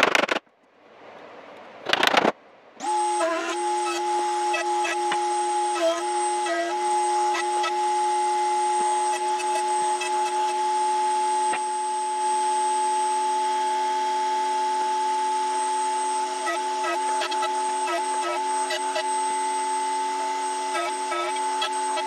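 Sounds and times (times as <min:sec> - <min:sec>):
router whining at full speed: 0:02.8 - 0:22.0.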